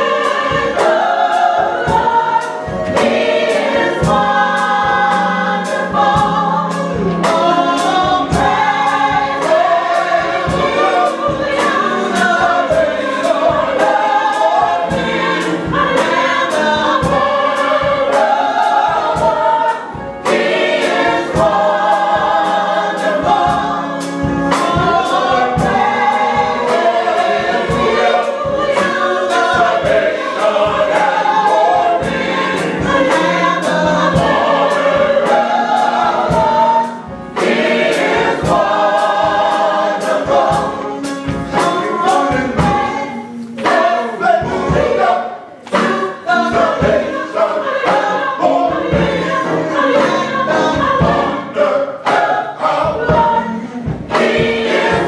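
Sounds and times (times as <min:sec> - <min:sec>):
choir singing gospel: 0:00.0 - 0:55.0
steady beat: 0:00.0 - 0:55.0.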